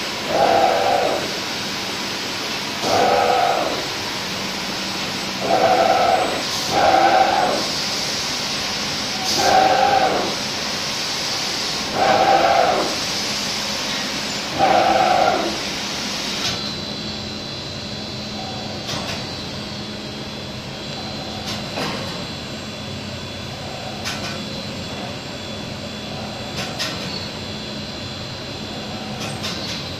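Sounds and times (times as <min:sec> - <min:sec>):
machinery humming: 0:00.0 - 0:29.9.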